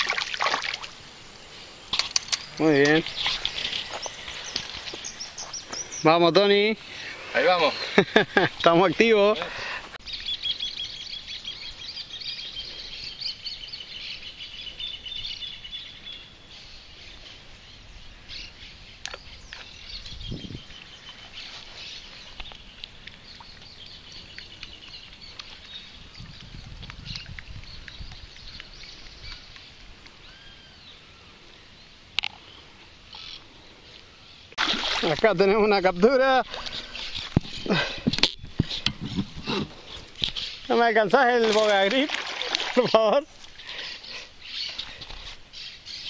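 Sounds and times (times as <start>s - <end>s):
birds chirping and singing: 2.0s - 46.0s.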